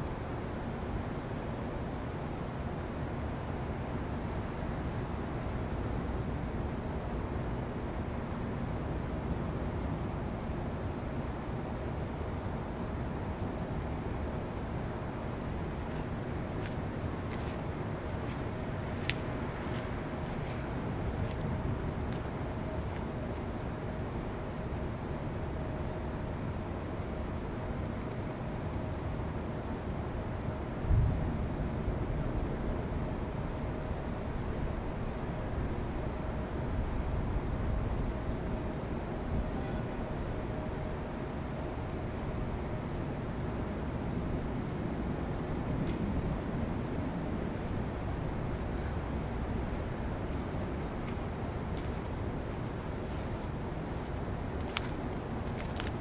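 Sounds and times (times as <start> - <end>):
crickets trilling: 0.0 - 56.0
low background noise: 0.0 - 56.0.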